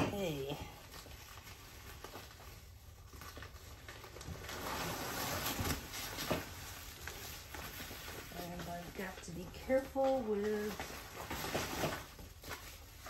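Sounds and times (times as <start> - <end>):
bubble wrap and cardboard rustling: 0.0 - 13.0.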